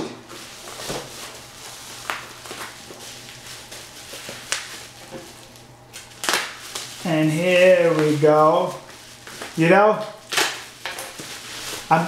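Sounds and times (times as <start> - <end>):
bubble wrap crackles: 0.3 - 12.0
bubble wrap rustling: 0.3 - 12.0.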